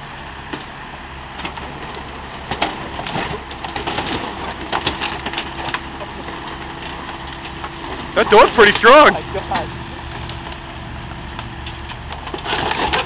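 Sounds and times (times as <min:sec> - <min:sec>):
excavator diesel engine running: 0:00.0 - 0:13.0
sheet metal cracking and creaking: 0:01.4 - 0:13.0.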